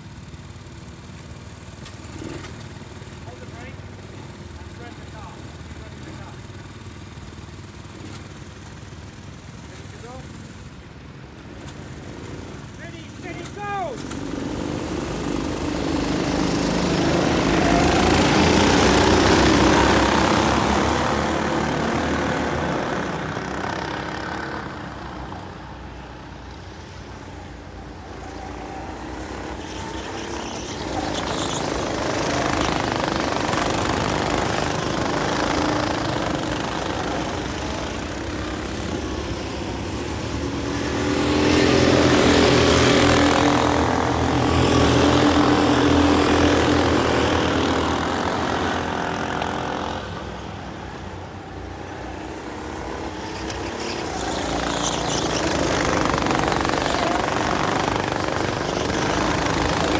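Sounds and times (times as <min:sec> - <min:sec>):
go-kart engines revving: 0:00.0 - 0:59.9.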